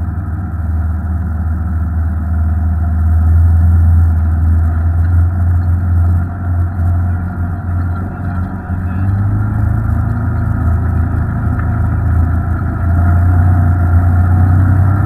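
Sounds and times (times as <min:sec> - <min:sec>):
off-road vehicle engine droning: 0:00.0 - 0:15.0.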